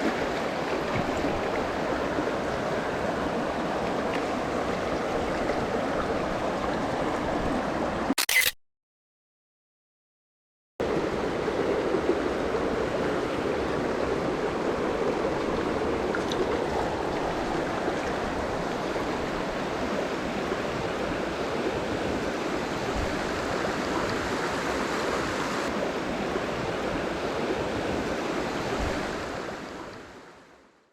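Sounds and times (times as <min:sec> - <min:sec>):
stream water rushing over rocks: 0:00.0 - 0:08.0, 0:10.8 - 0:29.7.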